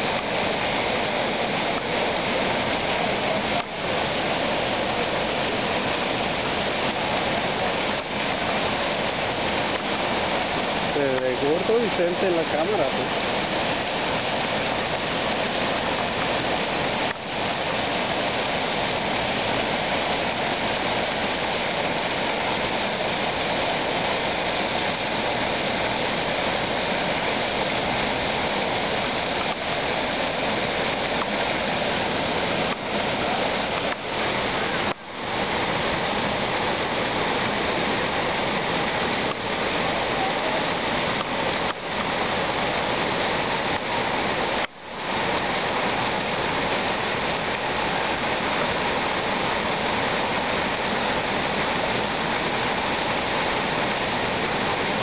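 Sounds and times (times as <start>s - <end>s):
water pouring and splashing: 0.0s - 55.0s.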